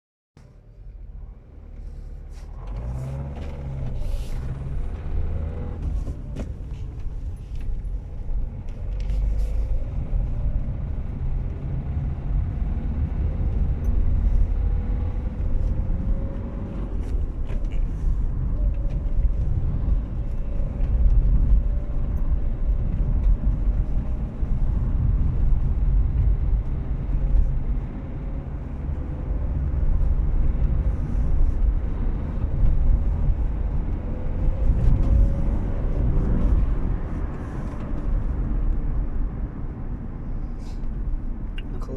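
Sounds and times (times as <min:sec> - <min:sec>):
car rumbling in motion: 0:00.4 - 0:41.9.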